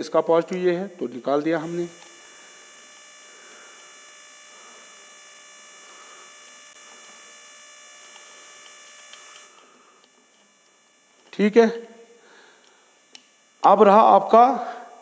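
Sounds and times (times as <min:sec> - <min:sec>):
electrical hum: 0:00.0 - 0:15.0
faint high-pitched whine: 0:00.0 - 0:15.0.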